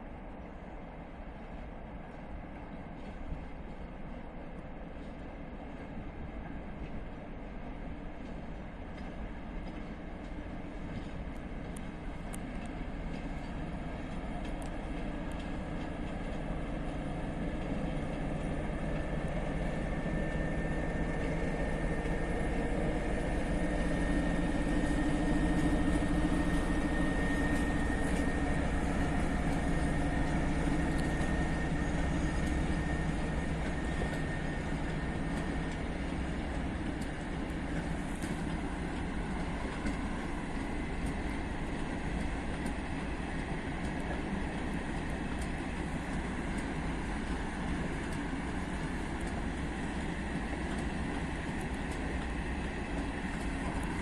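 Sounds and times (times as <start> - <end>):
train moving along rails: 0.0 - 54.0
thin steady whine: 10.6 - 54.0.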